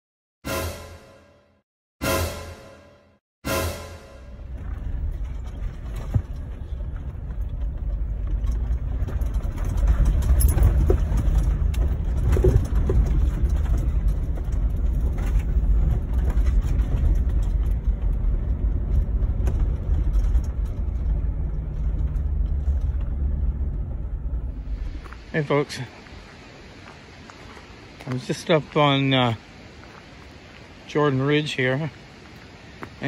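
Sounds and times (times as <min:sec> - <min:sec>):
engine and road rumble: 0:02.1 - 0:33.0
gravel clicking under tyres: 0:04.4 - 0:33.0.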